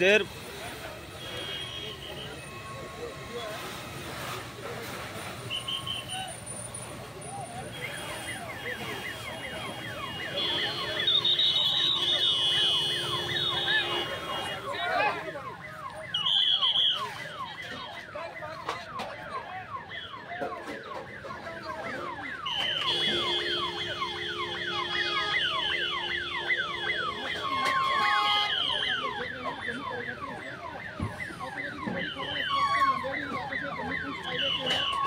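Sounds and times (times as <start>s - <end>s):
electronic siren sweeping: 1.5s - 35.0s.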